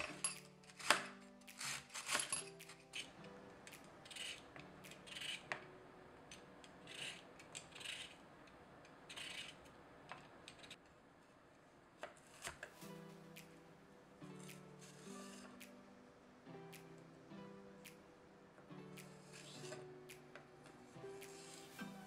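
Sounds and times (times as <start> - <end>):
faint background music: 0.0 - 10.8, 12.2 - 22.0.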